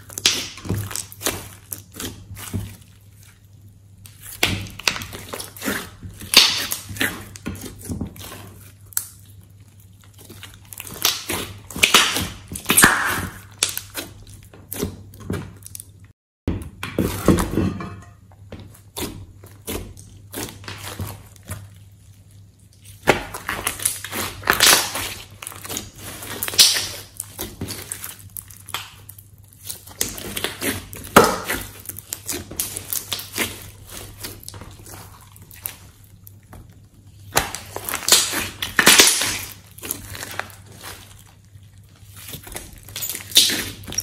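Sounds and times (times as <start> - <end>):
slime crackling wetly: 0.0 - 16.1, 18.7 - 44.0.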